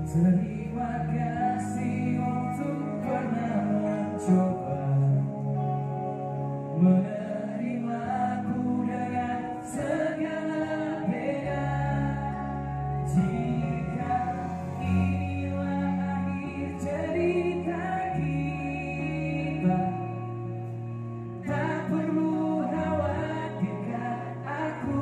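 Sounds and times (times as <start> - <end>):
live pop band playing: 0.0 - 25.0
person singing: 0.0 - 25.0.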